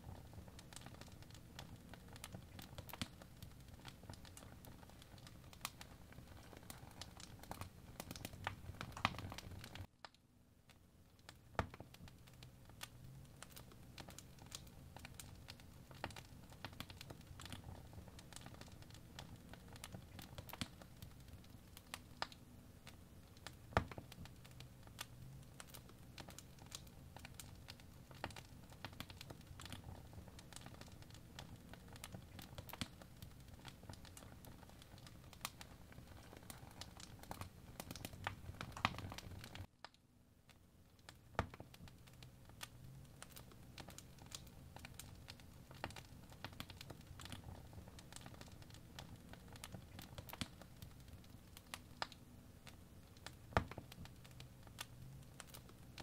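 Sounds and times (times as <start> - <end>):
faint low room hum: 0.0 - 56.0.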